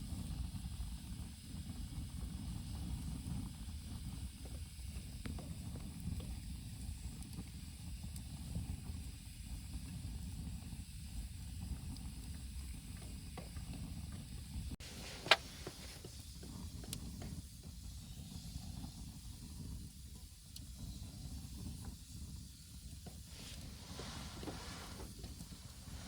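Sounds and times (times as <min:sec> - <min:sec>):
campfire burning: 0:00.0 - 0:26.0
fire crackles: 0:00.0 - 0:26.0.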